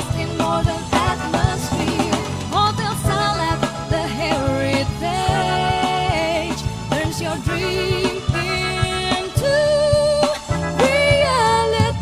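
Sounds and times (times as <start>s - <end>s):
pop music with steady beat: 0.0s - 12.0s.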